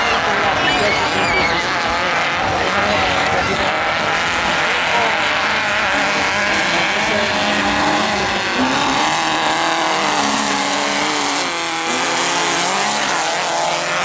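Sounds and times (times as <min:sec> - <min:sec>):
buggy engines revving: 0:00.0 - 0:14.0.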